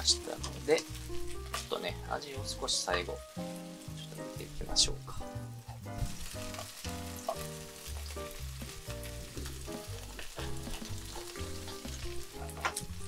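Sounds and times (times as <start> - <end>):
greens sizzling in oil: 0.0 - 13.0
soft background music: 0.0 - 13.0.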